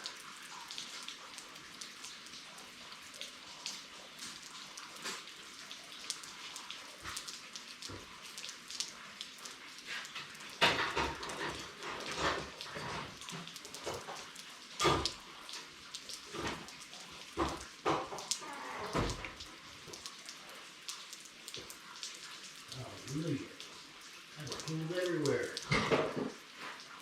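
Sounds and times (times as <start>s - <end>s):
rain pattering: 0.0s - 27.0s.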